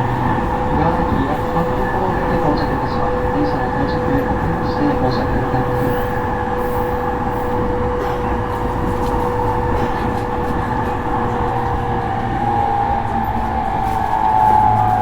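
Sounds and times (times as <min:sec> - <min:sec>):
electric train rumble: 0:00.0 - 0:15.0.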